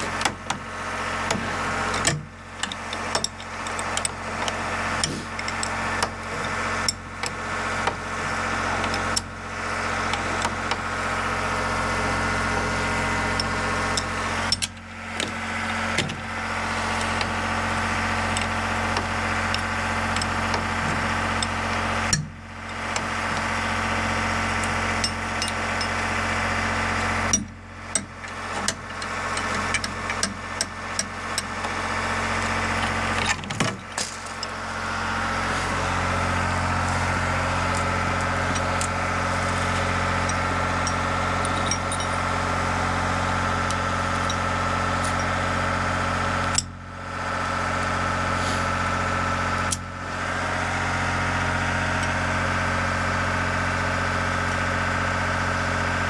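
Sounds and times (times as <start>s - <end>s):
generator engine running: 0.0s - 56.0s.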